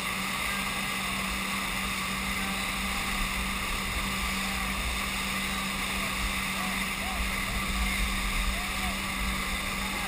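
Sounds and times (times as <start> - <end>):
motorboat engine running: 0.0 - 10.0
wake water rushing: 0.0 - 10.0.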